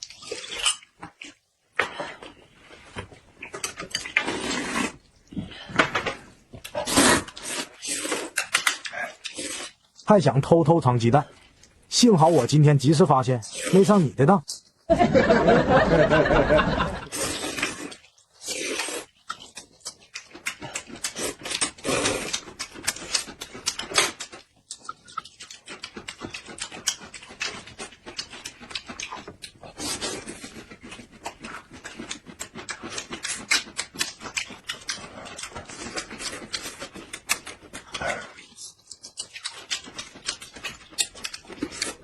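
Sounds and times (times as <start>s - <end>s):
wet chewing: 0.0s - 14.9s, 17.0s - 42.0s.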